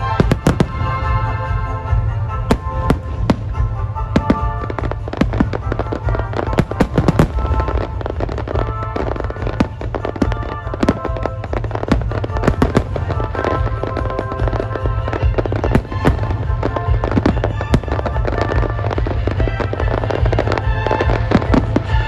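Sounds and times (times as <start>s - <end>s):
fireworks cracks and bangs: 0.0s - 22.0s
music playing: 0.0s - 22.0s.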